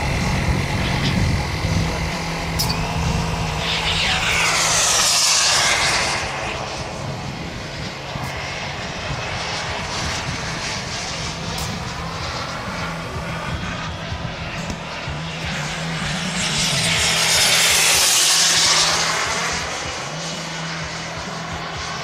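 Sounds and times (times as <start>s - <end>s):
low hum: 0.0s - 22.0s
model jet passing overhead: 0.0s - 22.0s.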